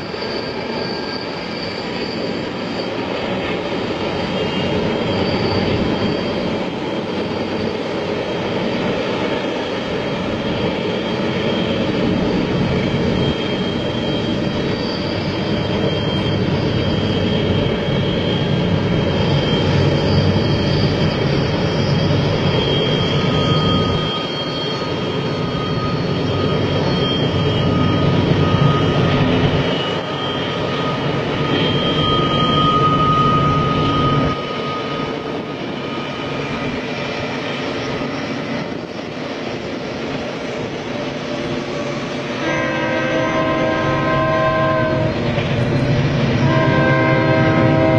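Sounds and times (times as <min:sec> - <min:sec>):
high squealing tones: 0:00.0 - 0:47.9
train wheels rumbling on track: 0:00.0 - 0:47.9.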